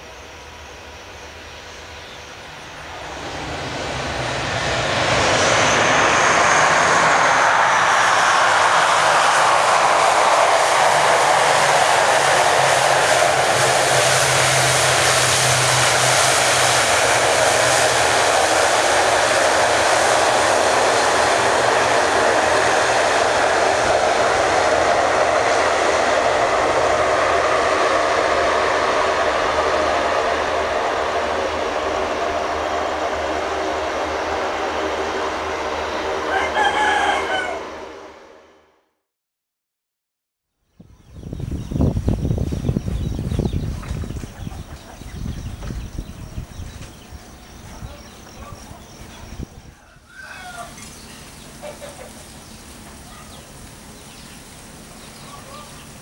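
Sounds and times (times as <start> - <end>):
high engine whine: 0.0 - 39.0, 40.8 - 56.0
turboprop engines droning: 0.0 - 39.0, 40.8 - 56.0.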